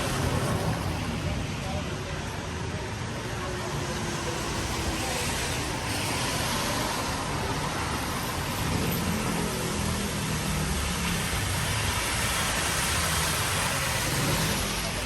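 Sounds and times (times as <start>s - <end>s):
rain on a wet street: 0.0s - 15.0s.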